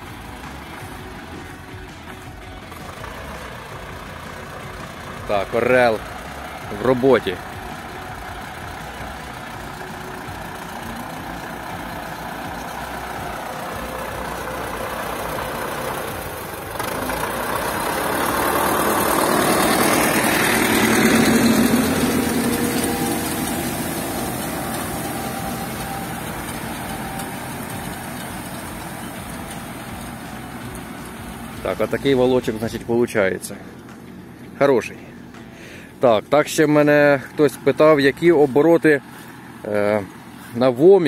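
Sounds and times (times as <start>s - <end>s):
tractor diesel engine passing: 0.0s - 41.0s.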